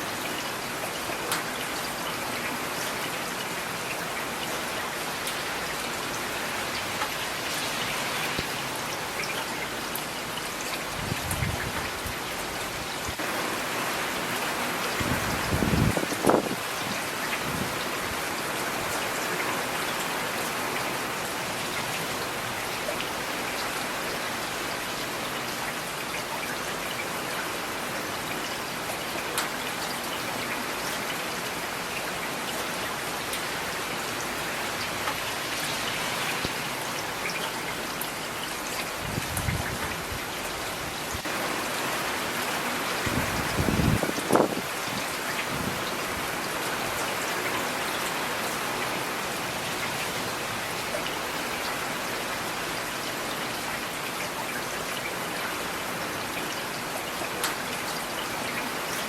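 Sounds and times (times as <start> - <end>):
rain on hard surfaces: 0.0 - 59.0.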